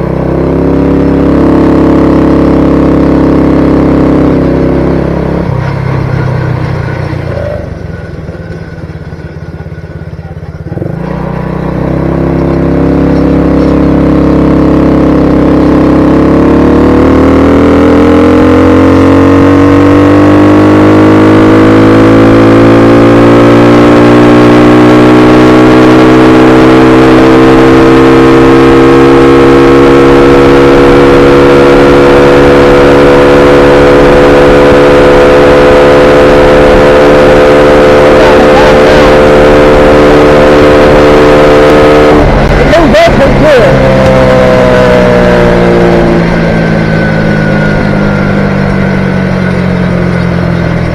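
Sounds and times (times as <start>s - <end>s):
small motorbike engine revving: 0.0s - 50.9s.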